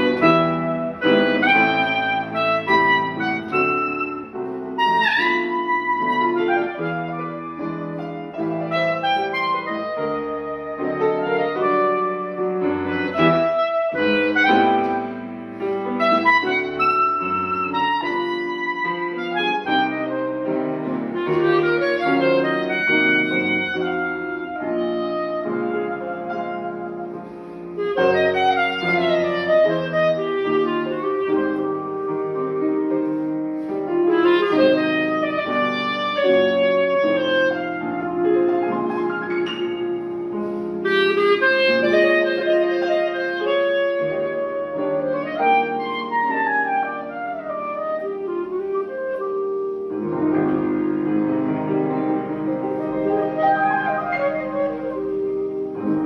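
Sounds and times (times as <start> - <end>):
clarinet melody: 0.0 - 56.0
piano accompaniment: 0.0 - 56.0.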